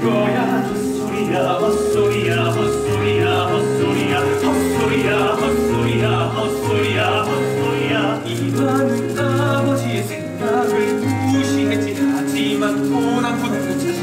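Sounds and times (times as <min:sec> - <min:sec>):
live theatre band playing held chords: 0:00.0 - 0:14.0.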